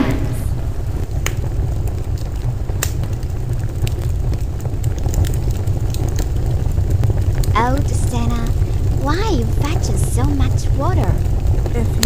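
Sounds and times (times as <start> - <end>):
low rumbling noise: 0.0 - 12.0
sharp crackles and clicks: 0.0 - 12.0.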